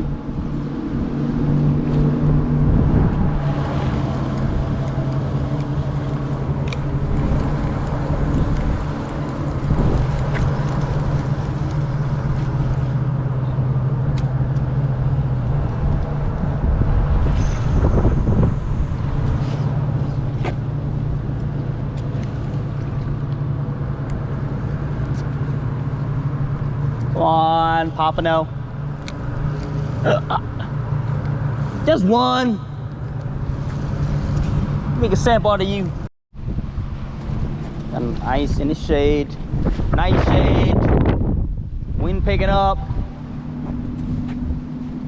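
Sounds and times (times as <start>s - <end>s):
motor traffic drone: 0.0s - 45.0s.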